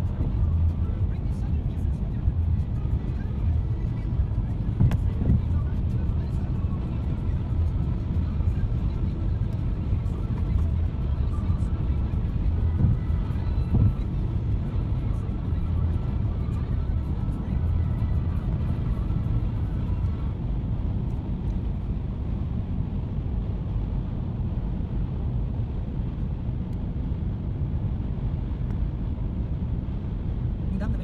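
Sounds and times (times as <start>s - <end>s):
car engine drone: 0.0s - 31.0s
road and tyre noise: 0.0s - 31.0s.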